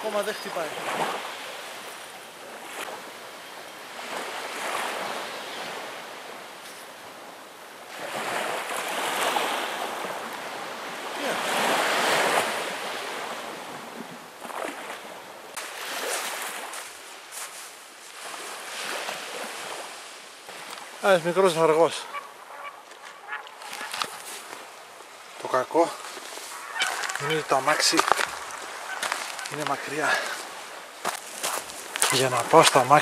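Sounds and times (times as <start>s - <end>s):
small sea waves washing ashore: 0.0s - 33.0s.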